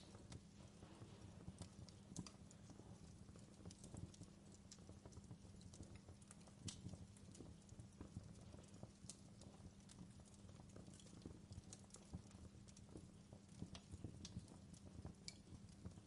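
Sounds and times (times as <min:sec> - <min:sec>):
faint fireplace crackling: 0:00.0 - 0:16.0.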